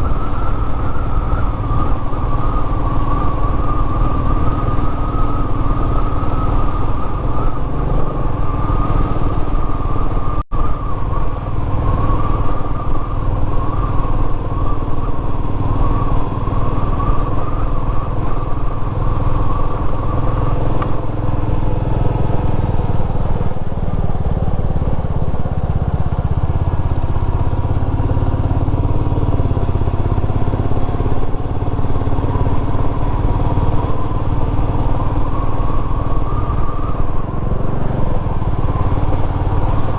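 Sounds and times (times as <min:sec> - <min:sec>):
motorcycle engine running: 0:00.0 - 0:39.9
wavering whine: 0:00.0 - 0:39.9.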